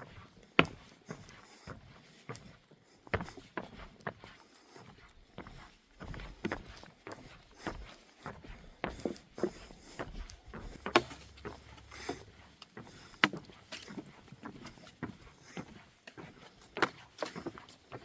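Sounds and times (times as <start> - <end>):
footsteps on a trail: 0.0 - 18.0.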